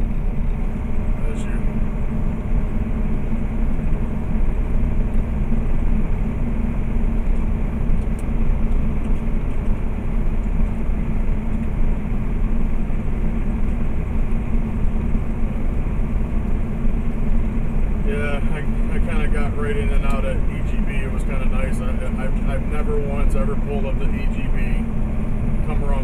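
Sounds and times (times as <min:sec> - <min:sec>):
diesel engine drone: 0:00.0 - 0:26.0
road noise: 0:00.0 - 0:26.0.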